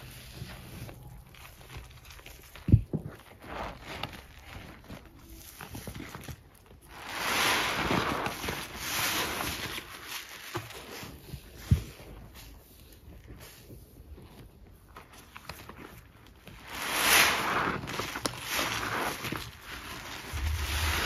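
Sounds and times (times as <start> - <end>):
sponge squishing foam: 0.0 - 21.0.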